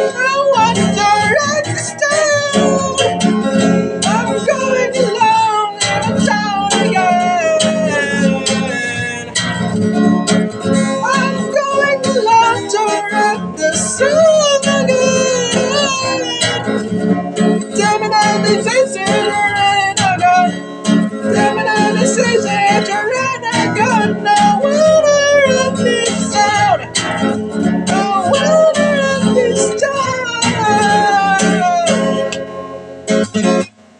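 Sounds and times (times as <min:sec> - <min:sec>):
man singing: 0:00.0 - 0:32.4
acoustic guitar strumming: 0:00.0 - 0:33.9.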